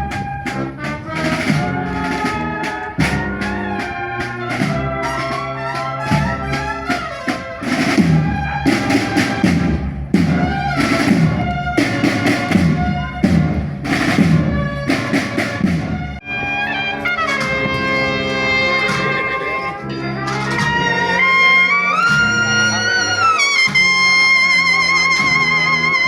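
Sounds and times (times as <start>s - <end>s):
drum beat: 0.0s - 16.2s, 17.0s - 19.8s, 21.9s - 26.0s
brass melody: 0.0s - 26.0s.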